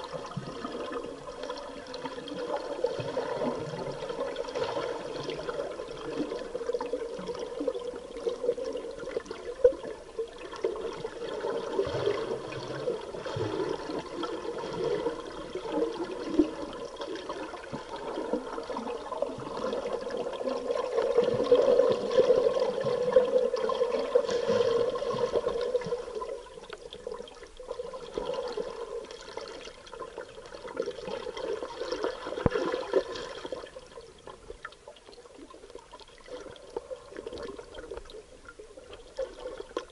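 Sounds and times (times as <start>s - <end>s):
muffled underwater bubbles gurgling: 0.0s - 39.9s.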